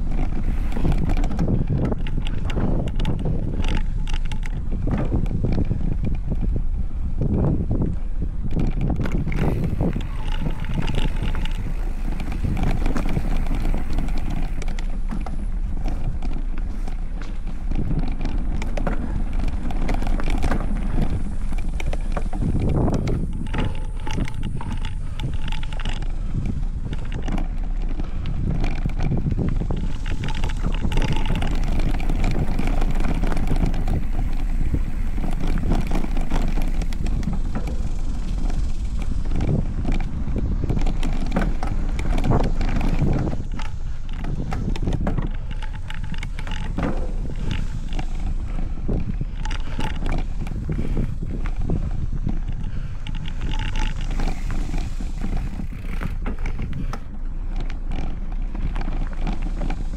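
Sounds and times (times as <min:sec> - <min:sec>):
bike knocking and rattling: 0:00.0 - 0:59.9
bike tyres rolling on dirt: 0:00.0 - 0:59.9.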